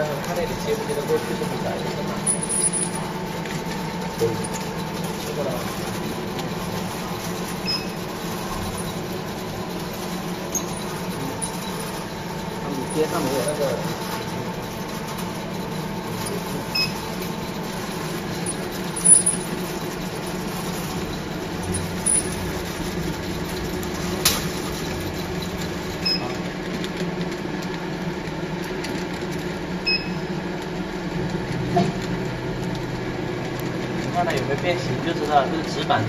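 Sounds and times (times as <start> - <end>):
machine mechanical hum: 0.0 - 36.0.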